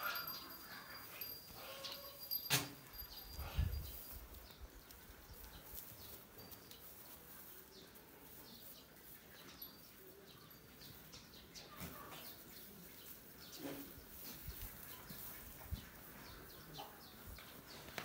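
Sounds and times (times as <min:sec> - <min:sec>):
goats rustling hay: 0:00.3 - 0:18.0.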